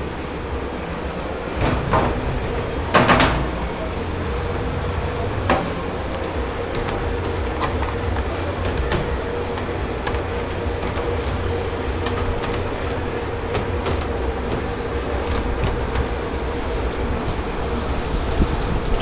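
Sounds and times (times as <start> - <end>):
kitchen machinery humming: 0.0 - 19.0.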